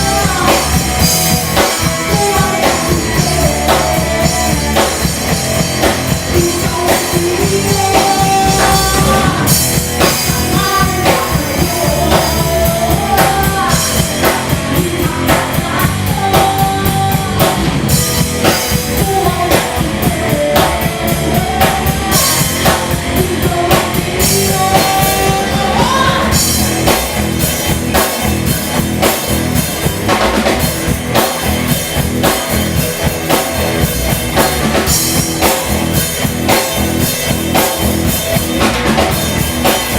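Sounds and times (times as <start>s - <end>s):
melodic lead guitar line: 0.0s - 39.9s
rock band playing live: 0.0s - 39.9s.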